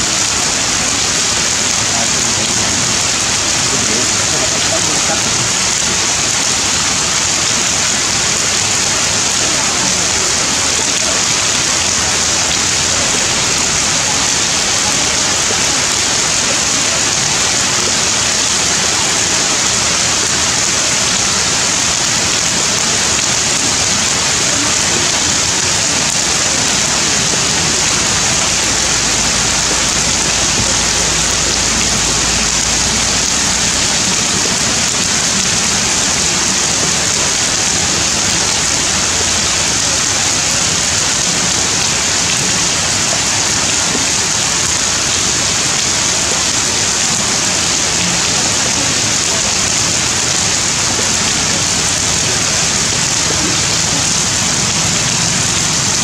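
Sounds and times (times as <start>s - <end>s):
heavy rain on leaves and stone: 0.0s - 56.0s.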